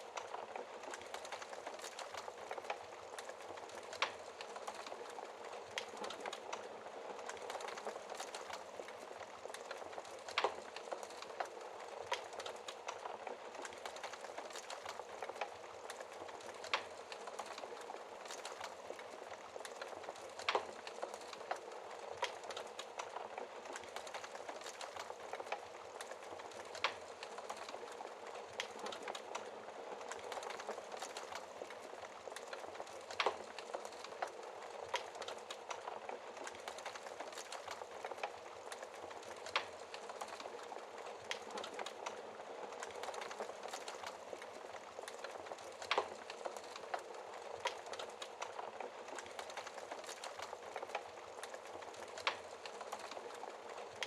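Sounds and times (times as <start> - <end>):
fire popping: 0.0 - 54.0
wood fire crackling: 0.0 - 54.0.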